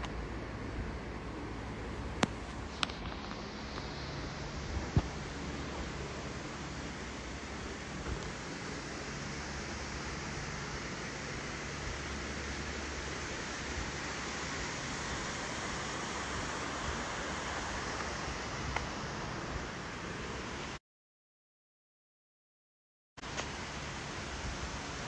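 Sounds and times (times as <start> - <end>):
steady rushing noise: 0.0 - 20.8.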